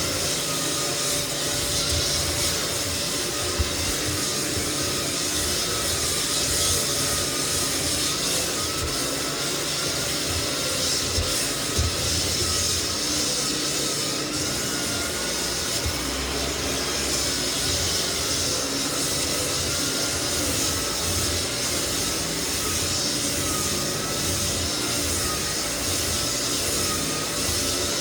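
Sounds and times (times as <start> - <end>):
dust extraction hiss: 0.0 - 28.0
floor sander running: 0.0 - 28.0.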